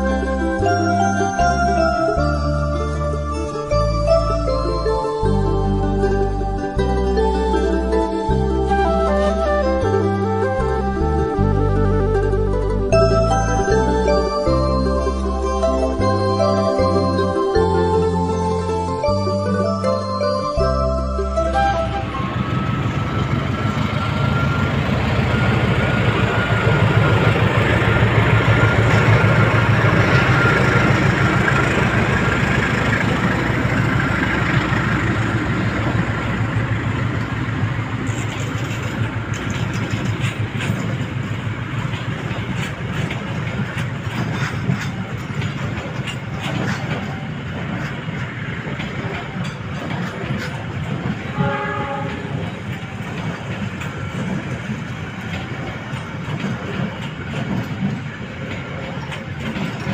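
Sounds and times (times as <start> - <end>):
train rumbling on rails: 0.0 - 59.9
wheels clicking over rail joints: 0.0 - 59.9.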